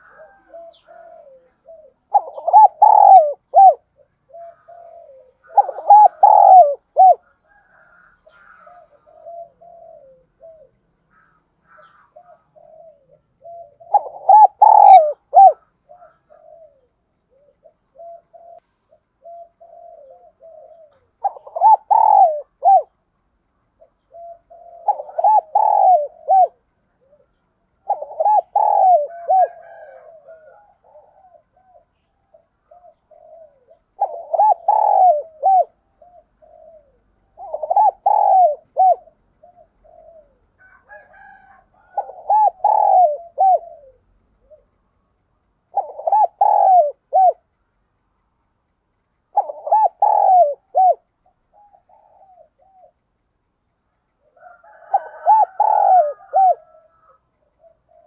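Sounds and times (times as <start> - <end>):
dove cooing: 0.0 - 23.0, 23.8 - 44.9, 45.6 - 47.5, 49.3 - 53.1, 54.2 - 58.0.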